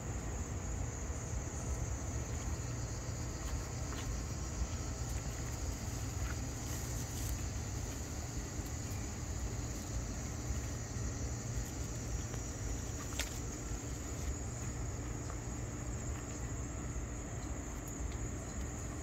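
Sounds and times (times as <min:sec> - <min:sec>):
constant low rumble: 0:00.0 - 0:19.0
high-pitched insect chorus: 0:00.0 - 0:19.0.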